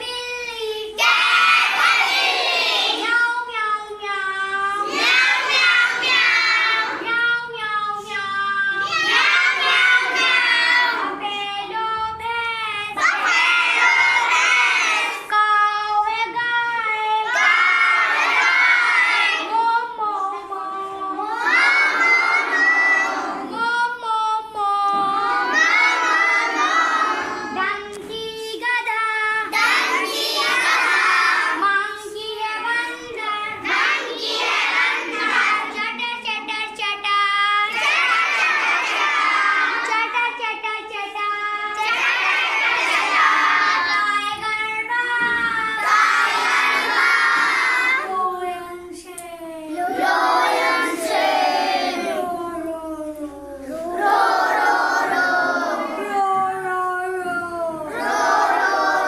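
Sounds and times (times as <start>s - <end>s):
children singing and shouting: 0.0s - 59.0s.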